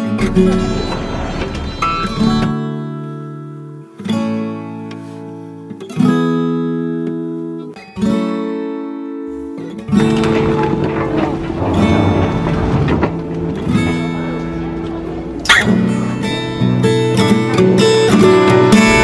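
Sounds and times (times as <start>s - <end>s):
acoustic guitar chords strummed: 0.0s - 4.6s, 7.9s - 19.0s.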